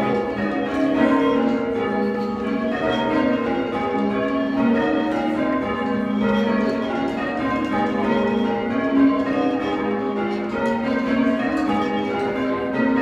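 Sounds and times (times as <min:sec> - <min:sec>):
church bells change ringing: 0:00.0 - 0:13.0.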